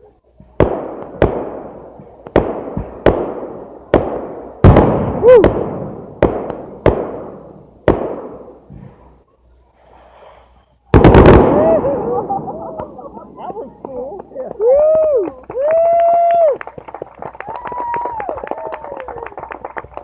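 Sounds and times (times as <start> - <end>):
fireworks bursting with echo: 0.4 - 9.2, 10.8 - 18.8.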